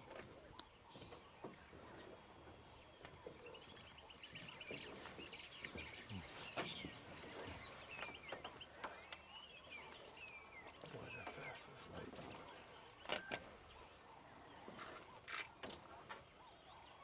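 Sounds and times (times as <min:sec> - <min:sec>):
birds chirping trills: 0:00.0 - 0:17.0.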